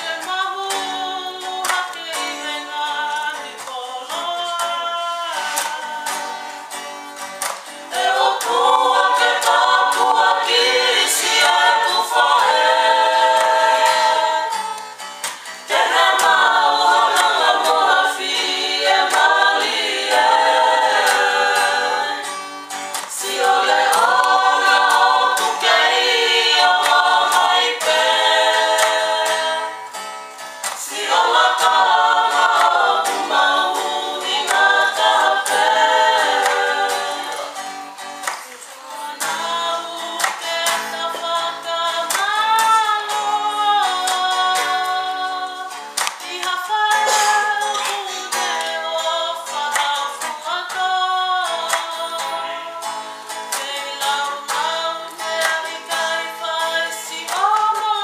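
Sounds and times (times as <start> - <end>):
group singing in harmony: 0.0 - 6.7, 7.5 - 58.0
strummed acoustic guitar: 0.0 - 58.0.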